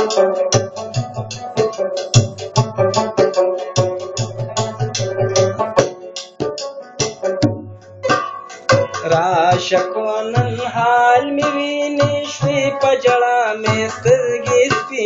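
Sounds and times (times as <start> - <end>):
plucked lute melody: 0.0 - 15.0
tabla drumming: 0.0 - 15.0.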